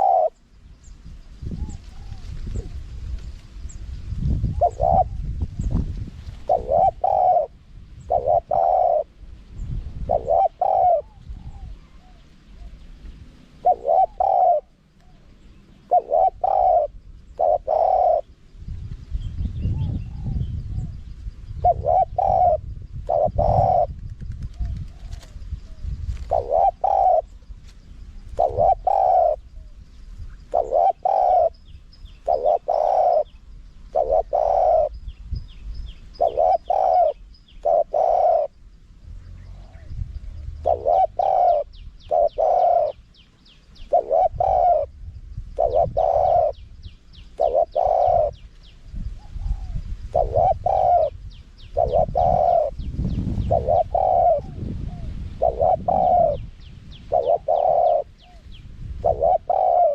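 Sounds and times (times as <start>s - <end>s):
dove cooing: 0.0s - 0.4s, 1.5s - 2.9s, 4.4s - 5.8s, 6.4s - 9.2s, 9.9s - 12.8s, 13.4s - 18.4s, 19.6s - 29.8s, 30.4s - 35.2s, 36.1s - 38.6s, 39.3s - 59.9s.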